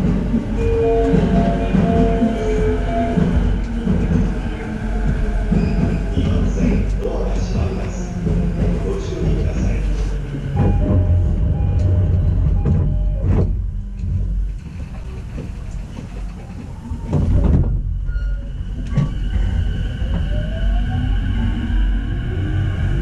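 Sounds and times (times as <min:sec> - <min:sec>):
train clunks: 0:00.0 - 0:20.4
train running rumble: 0:00.0 - 0:23.0.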